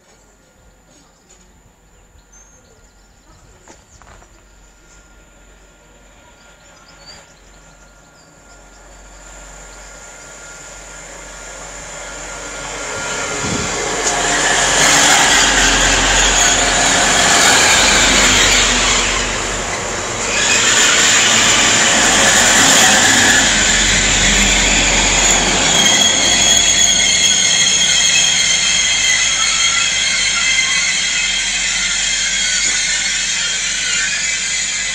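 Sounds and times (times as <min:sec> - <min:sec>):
diesel train passing: 0:00.2 - 0:34.9
train wheel squeal: 0:02.2 - 0:34.9.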